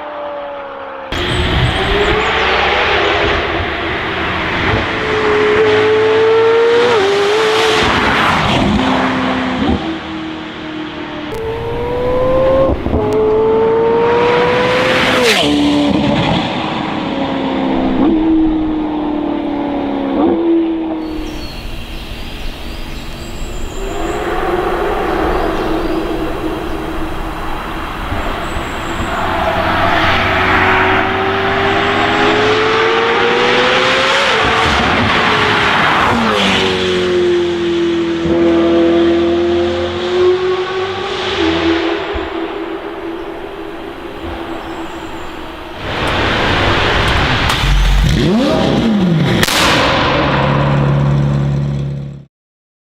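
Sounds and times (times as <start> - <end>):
sports car accelerating past: 0.1 - 52.1.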